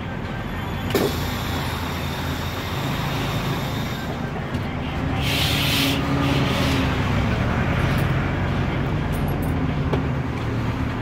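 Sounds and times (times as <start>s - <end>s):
diesel bus engine running: 0.0s - 11.0s.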